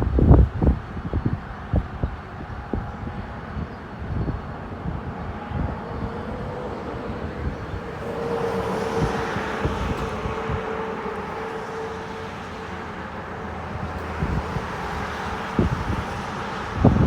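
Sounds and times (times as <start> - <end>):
diesel locomotives running: 0.0 - 17.0
wind buffeting microphone: 0.0 - 17.0.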